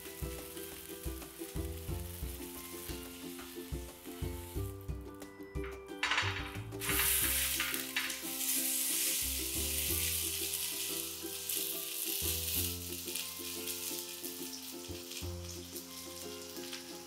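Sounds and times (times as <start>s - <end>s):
pork sizzling in hot oil: 0.0s - 17.0s.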